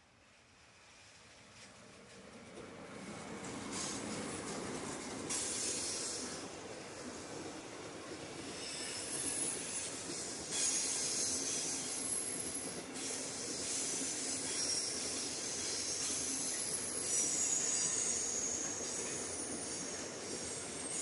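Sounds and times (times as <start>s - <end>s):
freight train wheels on rail: 0.2s - 21.0s.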